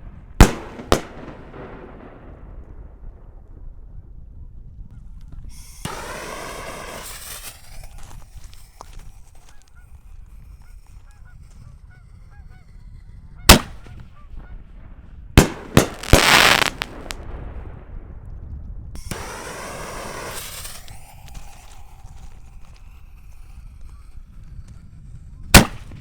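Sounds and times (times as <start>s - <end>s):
firework reports: 0.0s - 3.5s, 5.3s - 14.1s, 15.4s - 18.0s, 19.0s - 26.0s
firework crackle and hiss: 0.0s - 3.6s, 5.1s - 14.1s, 15.4s - 18.0s, 19.0s - 26.0s.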